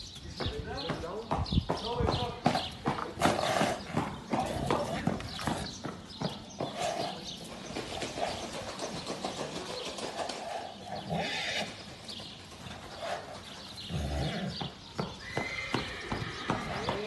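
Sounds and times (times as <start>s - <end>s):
hoofbeats in sand: 0.0s - 17.0s.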